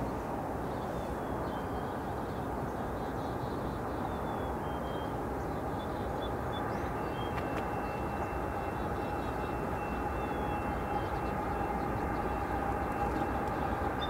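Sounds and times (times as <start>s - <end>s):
freight train rumble and hiss: 0.0s - 14.0s.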